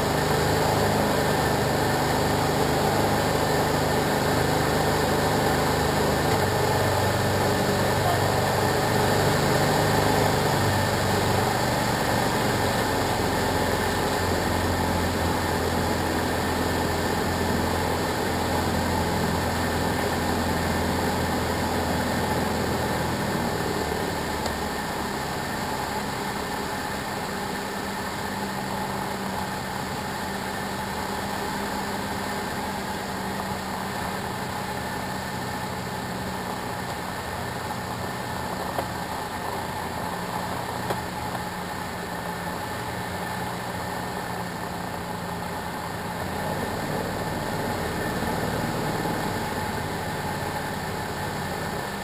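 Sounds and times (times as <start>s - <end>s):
aircraft engine and propeller droning: 0.0s - 52.0s.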